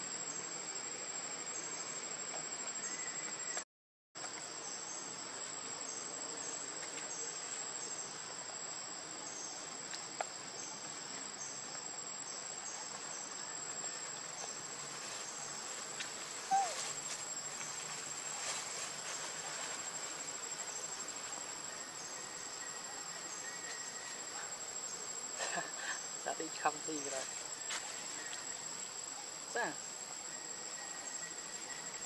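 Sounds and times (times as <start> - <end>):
shrill insect chorus: 0.0 - 3.6, 4.3 - 32.0.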